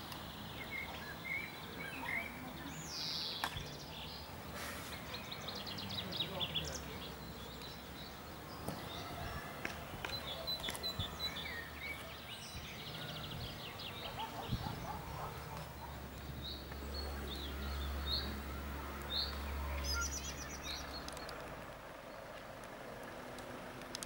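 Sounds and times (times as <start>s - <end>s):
small songbirds chirping: 0.0s - 24.0s.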